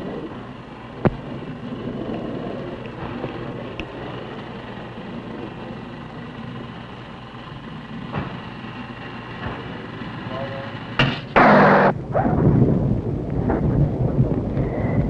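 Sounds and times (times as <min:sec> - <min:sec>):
wind rumble and hiss: 0:00.0 - 0:15.0.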